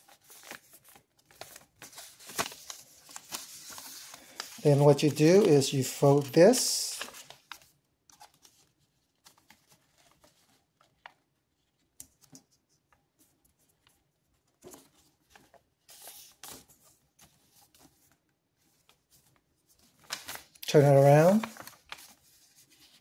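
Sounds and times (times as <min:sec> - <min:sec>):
paper rustling and crinkling: 0:00.0 - 0:12.6, 0:13.2 - 0:23.0.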